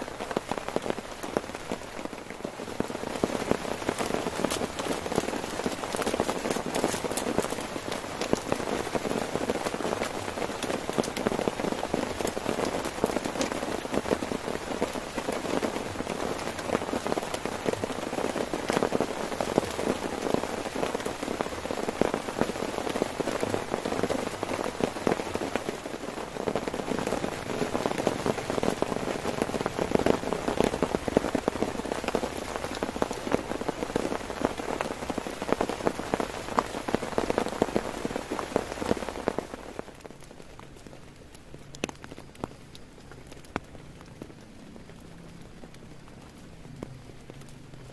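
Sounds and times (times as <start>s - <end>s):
heavy rain drumming on a tent: 0.0s - 47.9s.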